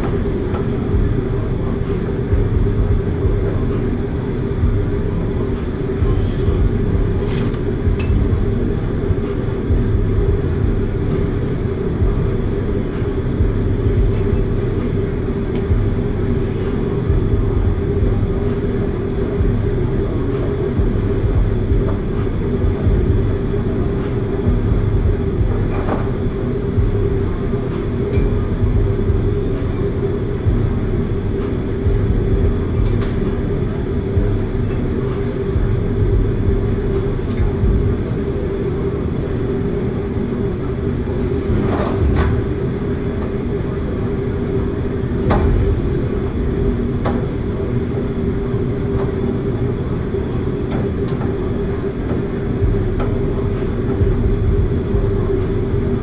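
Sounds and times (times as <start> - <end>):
low mechanical drone: 0.0 - 56.0.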